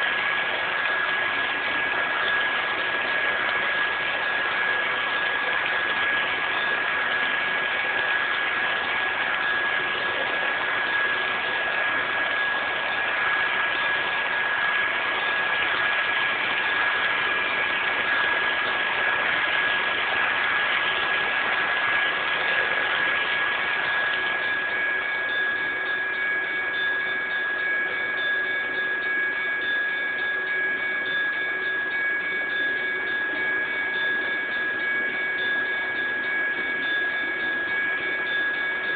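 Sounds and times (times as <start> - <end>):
high whine: 0.0 - 38.9
model train running hiss: 0.0 - 38.9.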